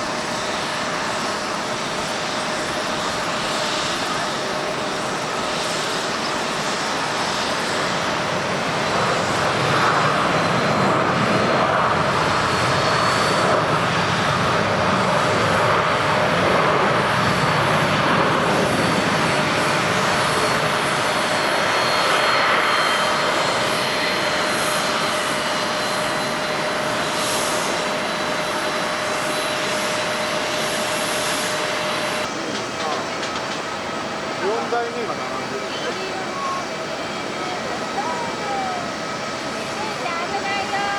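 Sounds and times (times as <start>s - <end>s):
jet engines roaring with whine: 0.0s - 40.9s.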